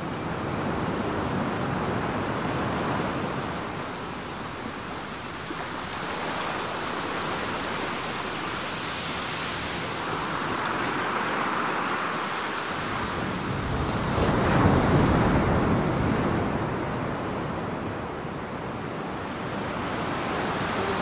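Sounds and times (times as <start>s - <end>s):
distant ocean surf: 0.0s - 21.0s
wind: 0.0s - 21.0s.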